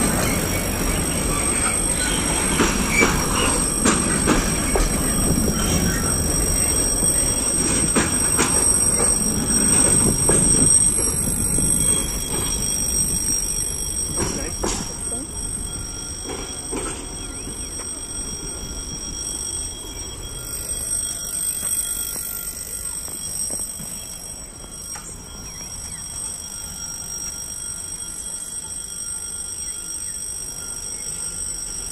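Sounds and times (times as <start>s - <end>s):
high-pitched ringing alarm: 0.0s - 31.9s.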